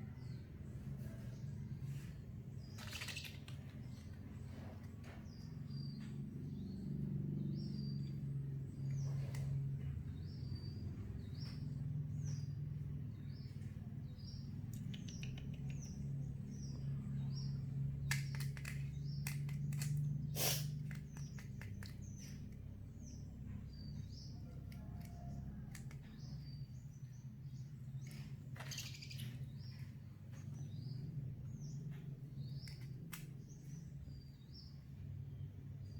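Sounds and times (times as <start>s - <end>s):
steady low hum: 3.4s - 35.9s.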